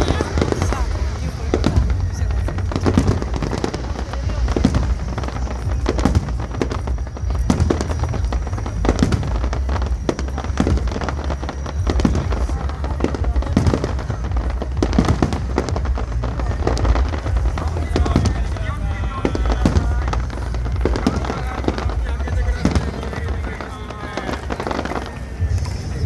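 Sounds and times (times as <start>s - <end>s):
deep steady rumble: 0.0s - 26.0s
fireworks bangs and crackles: 0.0s - 26.0s.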